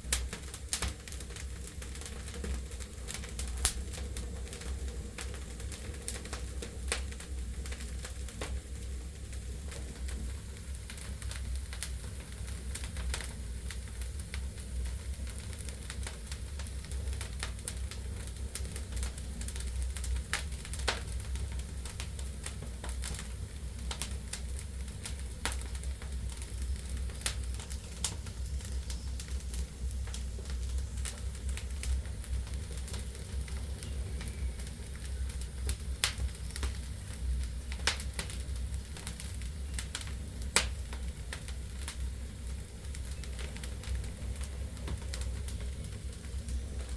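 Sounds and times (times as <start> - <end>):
low rumble of flames: 0.0 - 46.9
logs crackling and popping: 0.1 - 46.9.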